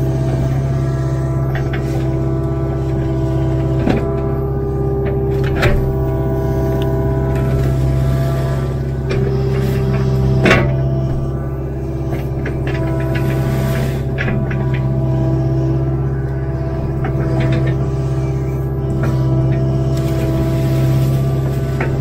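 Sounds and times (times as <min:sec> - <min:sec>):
excavator diesel engine running: 0:00.0 - 0:22.0
hydraulic whine: 0:00.0 - 0:22.0.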